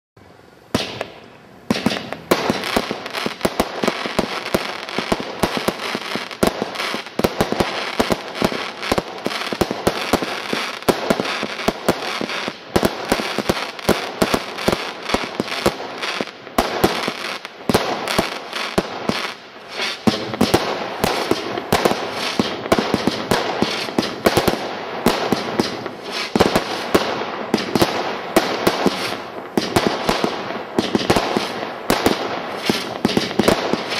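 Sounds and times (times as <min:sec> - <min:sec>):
firework crackling: 0:00.5 - 0:33.9
firework launches and bangs: 0:00.7 - 0:33.9.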